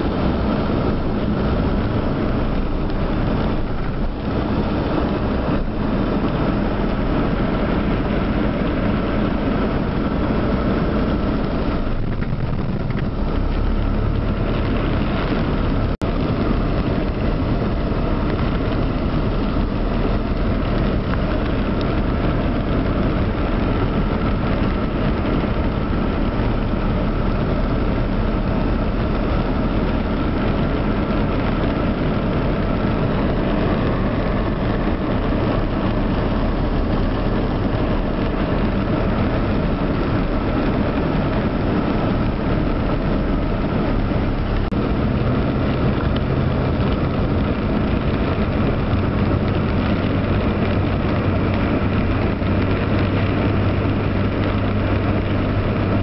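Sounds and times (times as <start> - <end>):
car engine running: 0.0 - 56.0
tyres on wet road: 0.0 - 56.0.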